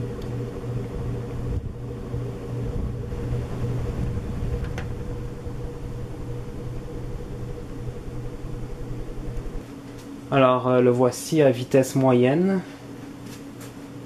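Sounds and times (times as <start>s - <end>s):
ceiling fan motor humming: 0.0s - 14.0s.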